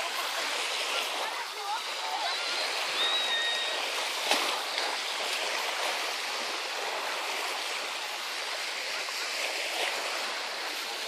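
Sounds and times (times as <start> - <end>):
small sea waves on sand: 0.0 - 11.0.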